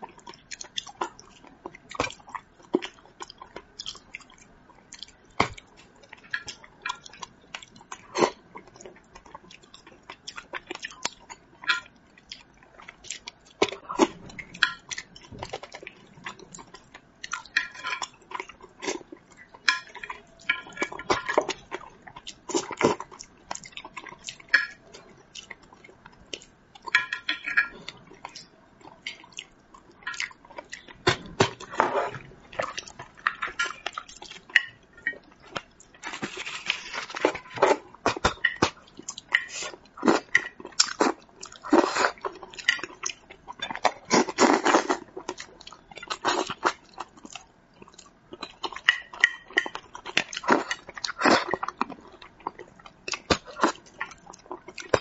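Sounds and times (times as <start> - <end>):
wet chewing and lip smacks: 0.0 - 55.0.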